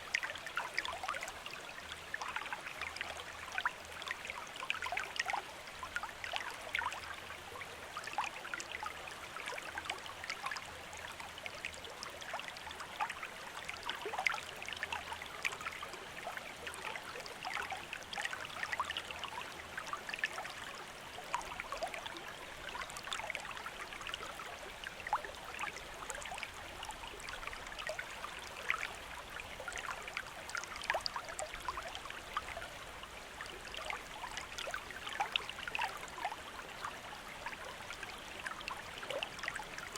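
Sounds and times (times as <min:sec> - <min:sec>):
stream water rushing and gurgling: 0:00.0 - 0:39.9.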